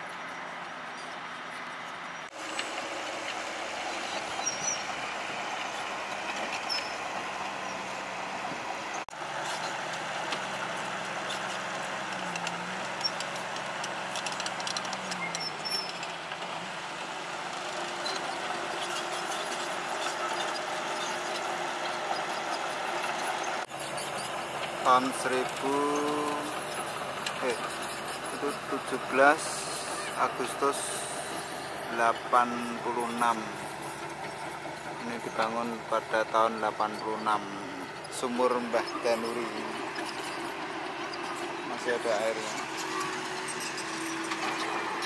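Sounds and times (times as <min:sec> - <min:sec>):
bulldozer diesel engine: 0:00.0 - 0:45.0.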